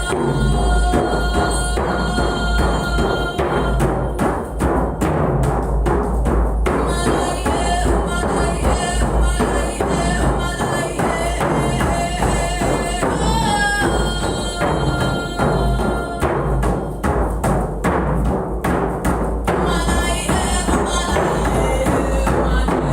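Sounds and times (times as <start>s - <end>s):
percussion-driven music: 0.0s - 22.9s.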